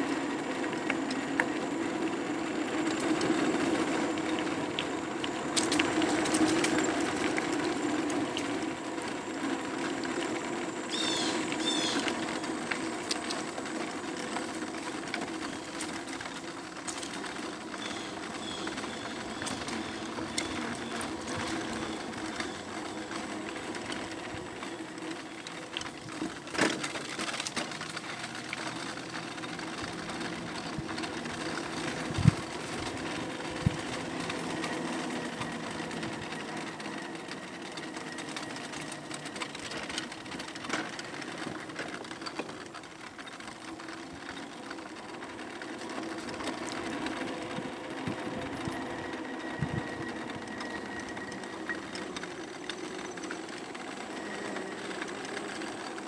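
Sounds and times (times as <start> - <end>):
electric bike motor whining: 0.0 - 56.0
tyre and road noise: 0.0 - 56.0.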